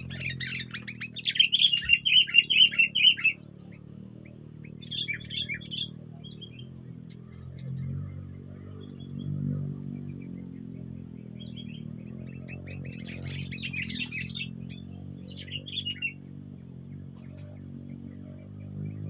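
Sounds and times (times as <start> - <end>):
low hum: 0.0 - 19.0
songbirds chirping: 0.0 - 19.0.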